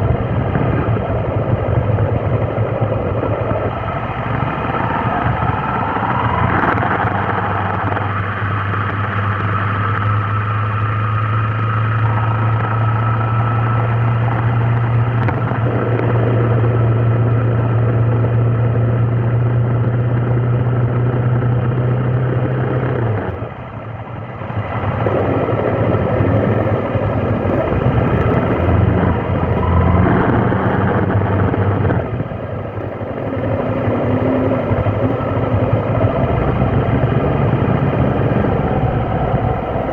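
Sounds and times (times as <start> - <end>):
traffic noise: 0.0 - 39.9
vehicle engine hum: 0.0 - 39.9.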